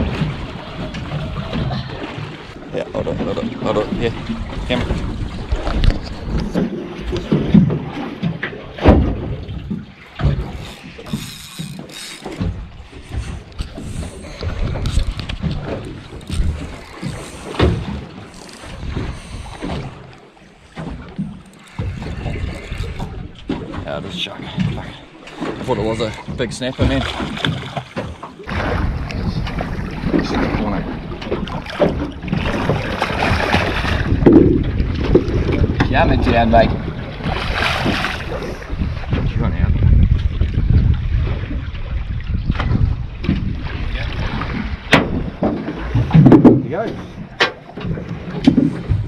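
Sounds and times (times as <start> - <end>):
water against boat hull: 0.0 - 49.0
wind buffeting microphone: 0.0 - 49.0.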